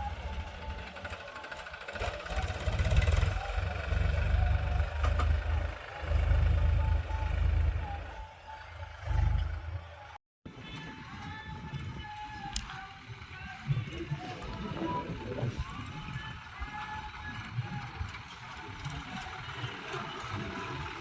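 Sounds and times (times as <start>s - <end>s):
farm machinery engine running: 0.0s - 10.2s, 12.1s - 21.0s.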